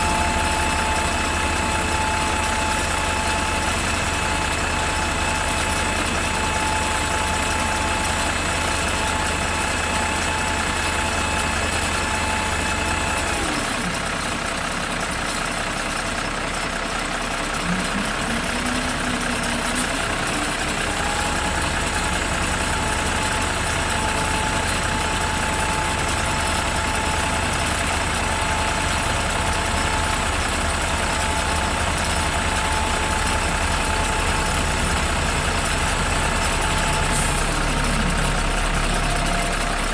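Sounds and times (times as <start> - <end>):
conveyor belt whine: 0.0 - 39.9
truck engine running: 0.0 - 39.9.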